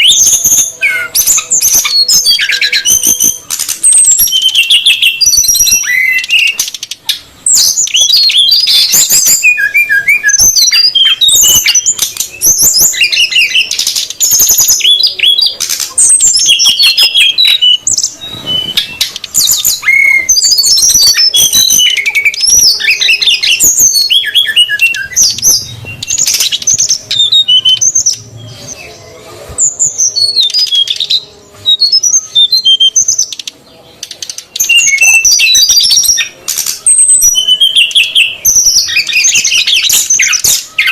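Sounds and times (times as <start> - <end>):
birds chirping and calling: 0.0 - 40.9.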